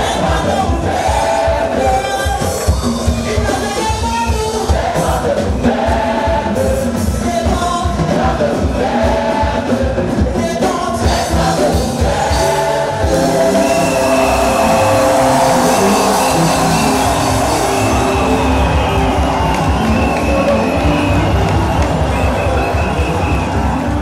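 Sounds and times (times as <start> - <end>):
band with steady beat: 0.0 - 24.0
choir singing gospel: 0.0 - 24.0.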